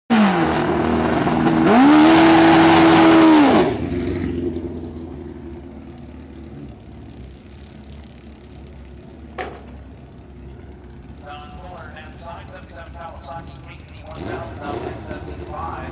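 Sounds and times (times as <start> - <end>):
motorcycle engine revving: 0.1 - 15.9.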